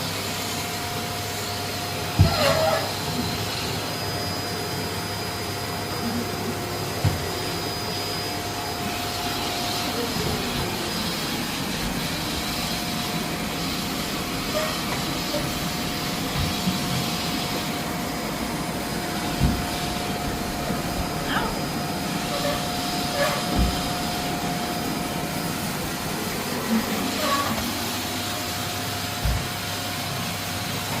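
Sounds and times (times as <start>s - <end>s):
vacuum cleaner motor running: 0.0s - 31.0s.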